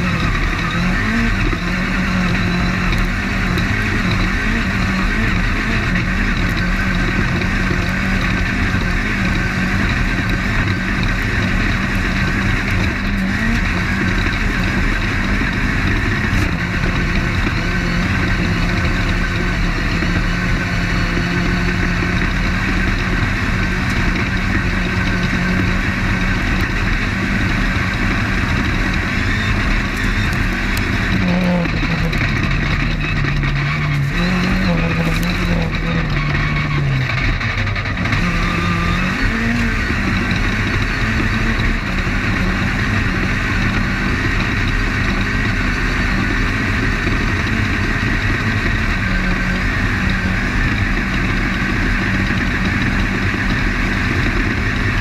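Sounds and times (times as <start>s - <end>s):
chassis noise: 0.0s - 55.0s
race car engine running: 0.0s - 55.0s.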